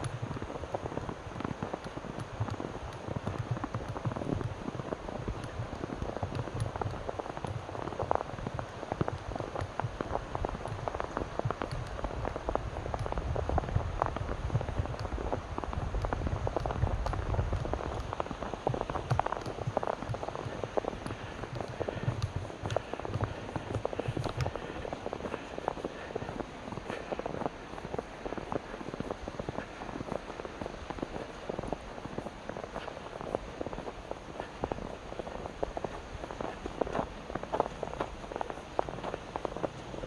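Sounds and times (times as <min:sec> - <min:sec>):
footsteps crunching through snow: 0:00.1 - 0:40.0.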